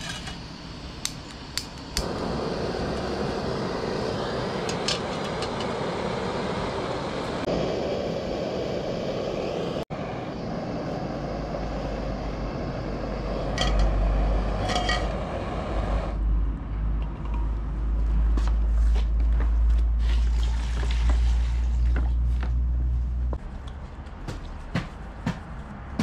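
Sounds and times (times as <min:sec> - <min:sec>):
traffic noise: 0:00.2 - 0:26.0.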